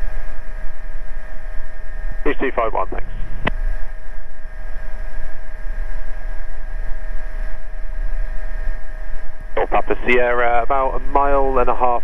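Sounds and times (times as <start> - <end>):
helicopter cabin drone: 0.0 - 12.0
high whine tones: 0.0 - 12.0.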